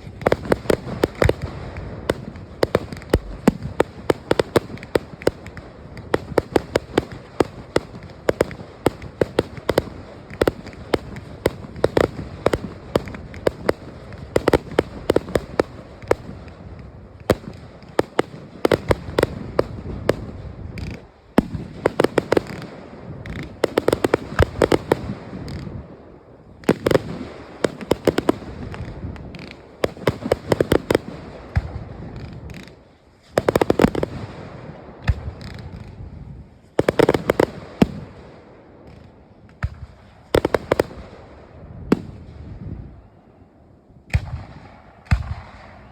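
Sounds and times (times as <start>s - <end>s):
fireworks bangs and pops: 0.0s - 42.9s, 44.1s - 45.9s.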